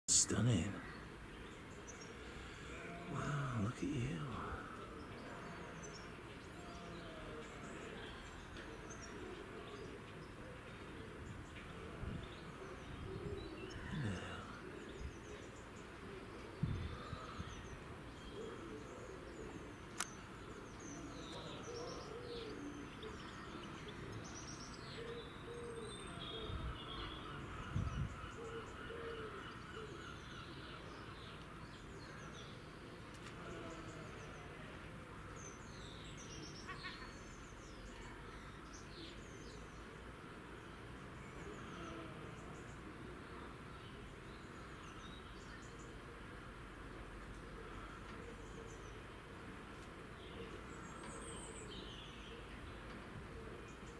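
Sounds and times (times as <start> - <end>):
outdoor background hiss: 0.1 - 53.9
small birds chirping: 0.1 - 53.9.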